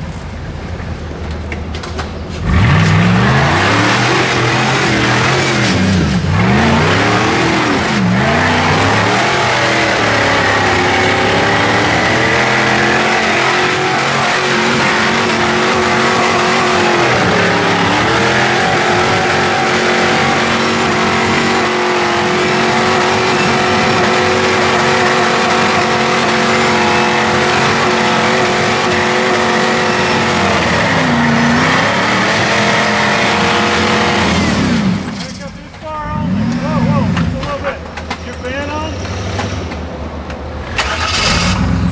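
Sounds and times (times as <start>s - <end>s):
buggy engine revving under load: 2.3s - 35.4s, 36.0s - 37.6s, 40.6s - 41.9s.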